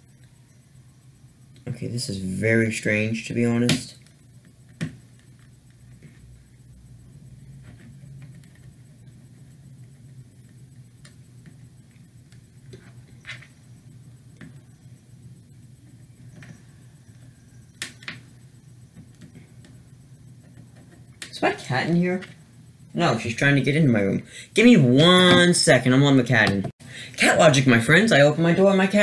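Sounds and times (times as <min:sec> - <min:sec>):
faint ticks and scratches: 0:00.0 - 0:23.7
steady low hum: 0:00.0 - 0:29.0.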